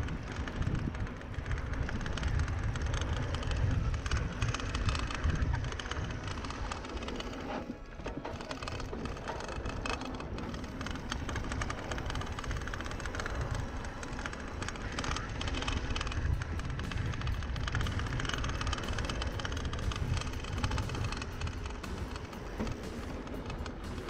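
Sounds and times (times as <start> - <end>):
bike clattering over bumps: 0.0 - 24.0
wind rushing over microphone: 0.0 - 24.0.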